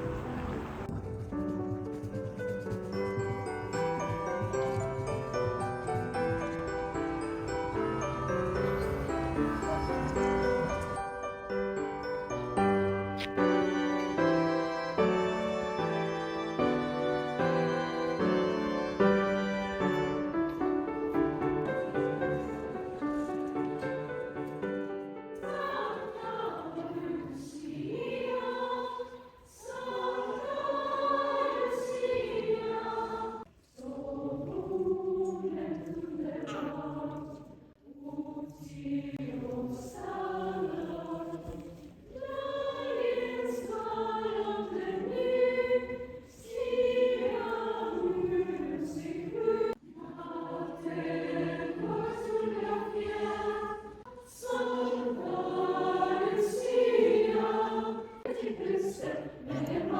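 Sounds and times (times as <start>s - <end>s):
choir singing slow song: 3.2s - 59.9s.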